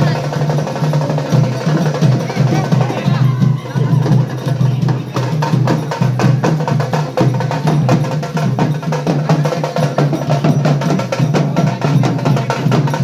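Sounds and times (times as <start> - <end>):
fast drum percussion music: 0.0 - 13.0.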